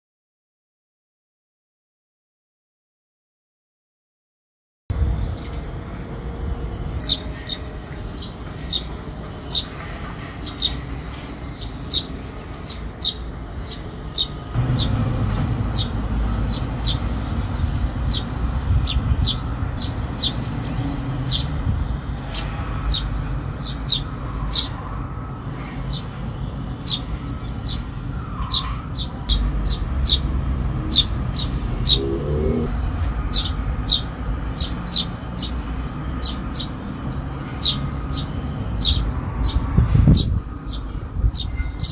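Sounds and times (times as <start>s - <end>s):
sparrows chirping: 5.0s - 41.9s.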